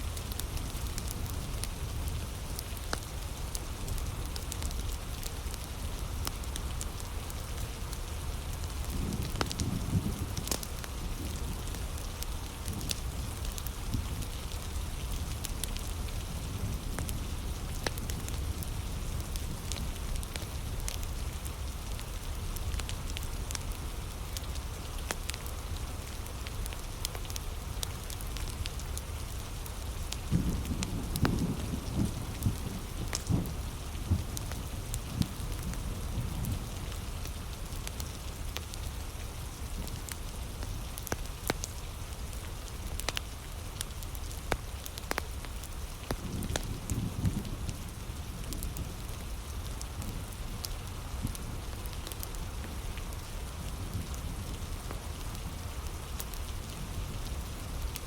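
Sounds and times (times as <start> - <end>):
heavy rain falling: 0.0 - 58.0
wood fire crackling: 0.0 - 58.0.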